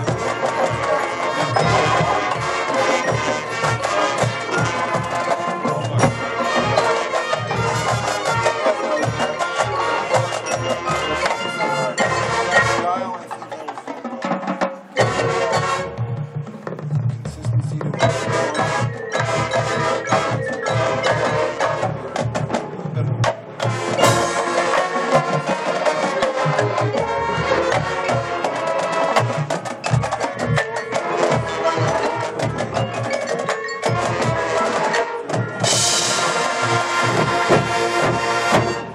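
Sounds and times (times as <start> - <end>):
marching band playing: 0.0 - 38.9.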